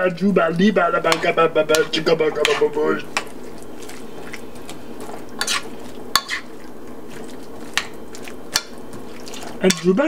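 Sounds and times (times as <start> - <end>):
spatula stirring food: 0.0 - 10.0
vegetables sizzling in a skillet: 1.0 - 10.0.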